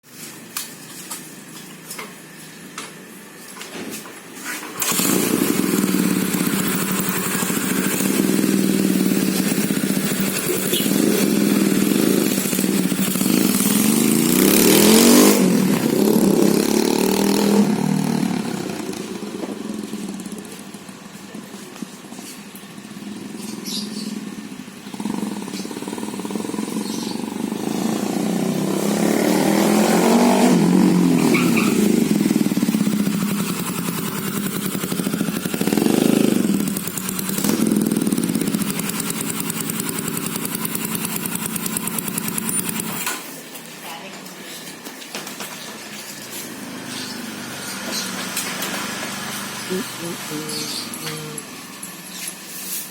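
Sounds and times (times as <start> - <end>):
motorcycle engine revving: 4.4 - 43.4, 44.8 - 52.9.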